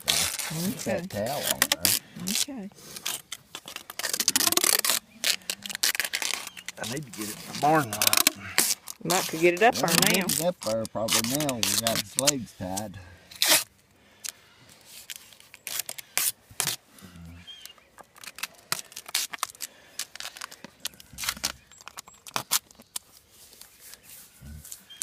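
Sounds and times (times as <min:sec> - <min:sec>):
adhesive tape tearing: 0:00.0 - 0:16.8, 0:17.6 - 0:24.0
crinkling: 0:00.0 - 0:25.0.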